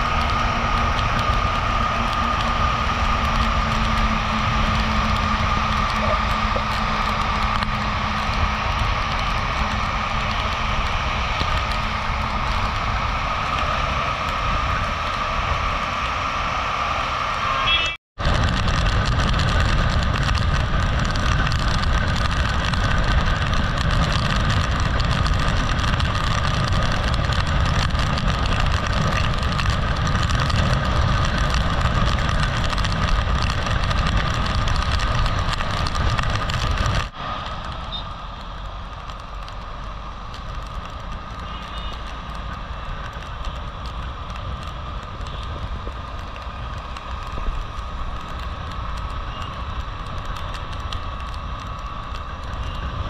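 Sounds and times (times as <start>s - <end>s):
motorcycle engine drone: 0.0s - 53.0s
tyres hissing on wet road: 0.0s - 53.0s
wind rush on microphone: 0.0s - 53.0s.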